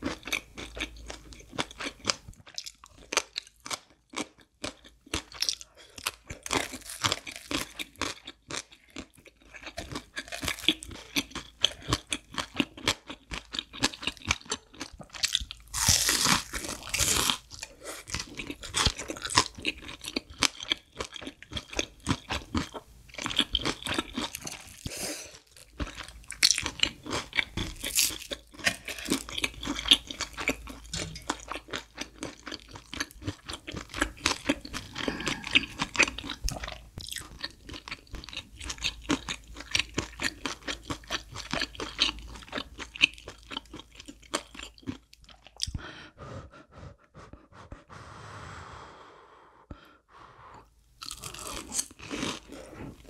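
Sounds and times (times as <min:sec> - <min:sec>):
crunching and chewing fried food: 0:00.0 - 0:45.9, 0:51.0 - 0:53.0.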